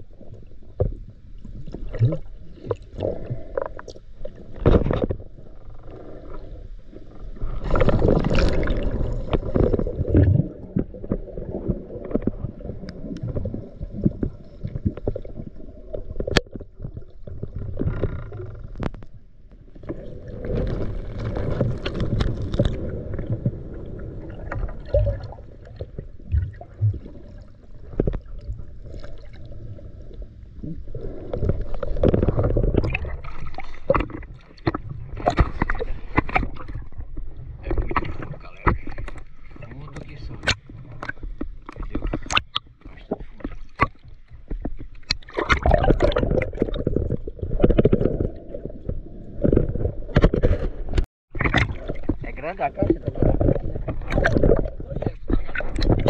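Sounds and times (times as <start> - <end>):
muffled water sloshing and gurgling: 0.0 - 56.0
water splashing: 7.2 - 18.6, 19.7 - 56.0.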